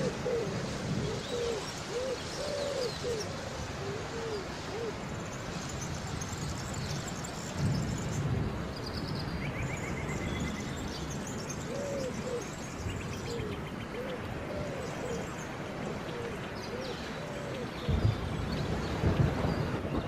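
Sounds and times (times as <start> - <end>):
birds calling: 0.0 - 20.0
rain hiss: 0.0 - 20.0.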